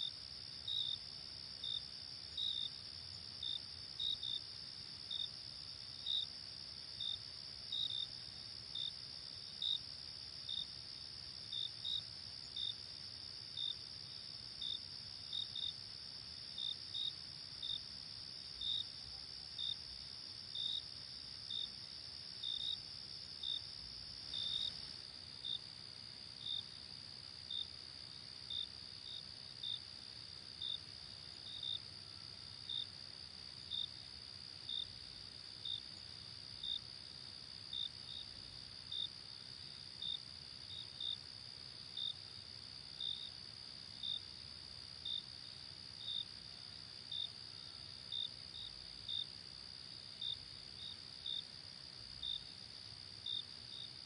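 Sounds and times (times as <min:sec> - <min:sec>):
single cricket chirps: 0:00.0 - 0:54.0.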